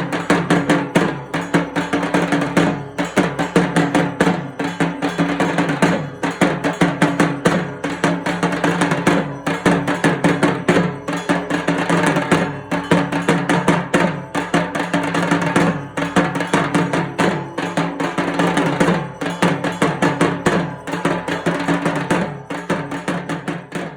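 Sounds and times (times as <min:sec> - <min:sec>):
barrel drum beaten fast: 0:00.0 - 0:23.9.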